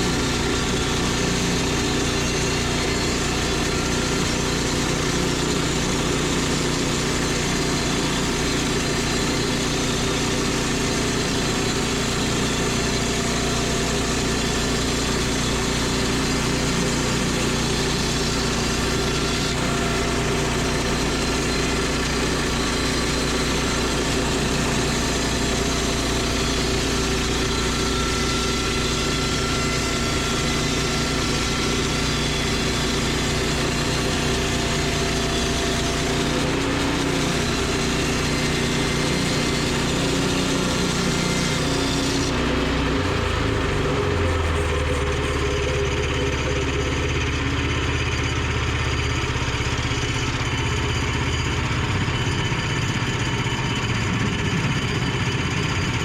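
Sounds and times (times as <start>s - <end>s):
gasoline engine running steadily: 0.0s - 56.0s.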